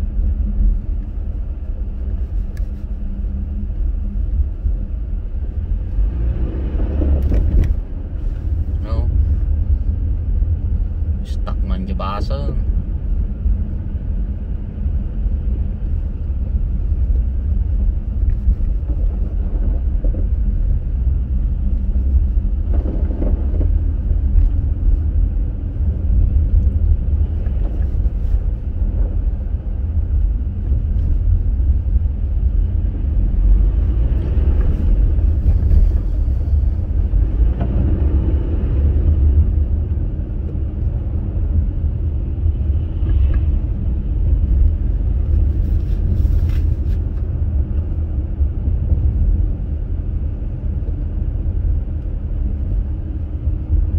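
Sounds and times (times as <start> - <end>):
car engine rumble: 0.0 - 53.9
tyres on snow road noise: 0.0 - 53.9.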